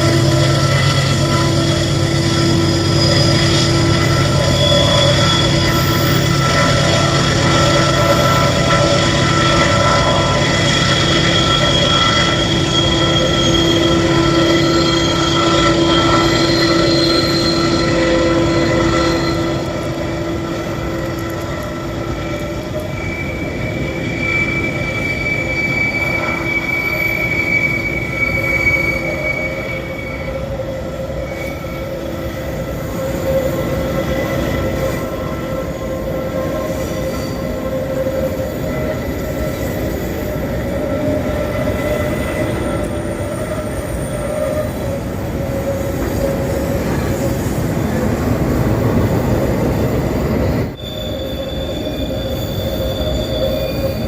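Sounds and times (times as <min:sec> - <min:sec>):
freight train rumbling: 0:00.0 - 0:54.0
wheel squeal: 0:00.0 - 0:54.0.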